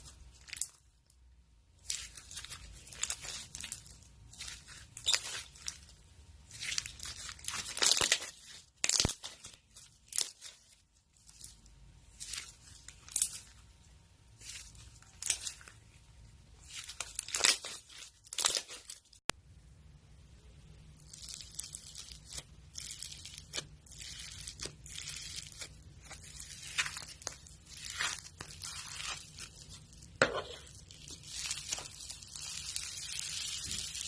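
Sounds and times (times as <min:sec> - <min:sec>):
slime crackling and crunching: 0:00.0 - 0:19.2, 0:20.7 - 0:34.0.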